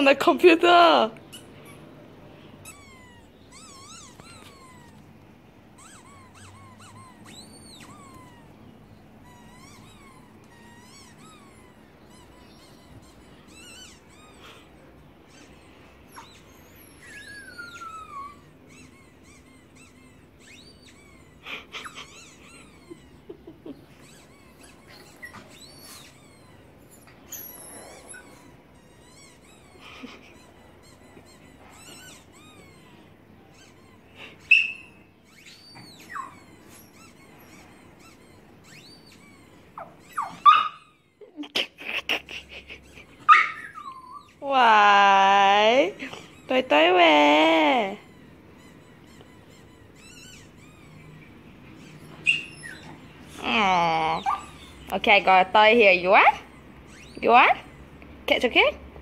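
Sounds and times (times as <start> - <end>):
small dog yipping: 1.2 - 1.9, 2.6 - 5.1, 5.8 - 41.4, 42.8 - 44.5, 48.0 - 57.8
squeaky toy squeaks from laptop speaker: 1.2 - 2.0, 2.6 - 5.0, 5.7 - 8.5, 9.2 - 41.2, 42.8 - 44.4, 47.9 - 53.5, 54.1 - 57.8.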